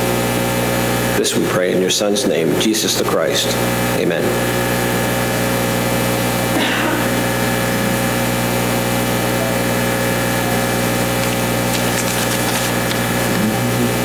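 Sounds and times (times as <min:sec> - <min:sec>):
sound system electrical hum: 0:00.0 - 0:14.0.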